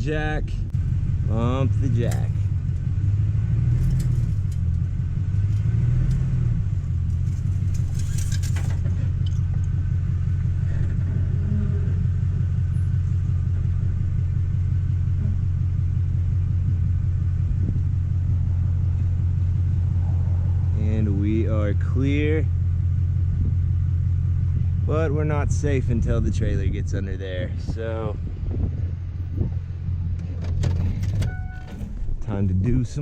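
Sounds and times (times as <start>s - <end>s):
pickup truck engine running: 0.0s - 33.0s.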